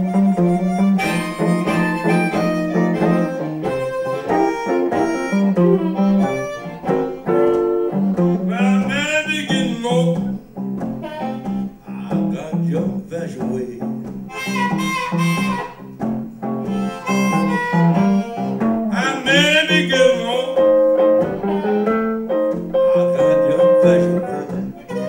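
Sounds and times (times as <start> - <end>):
blues harmonica: 0.0 - 25.0
electric guitar picking: 0.0 - 25.0.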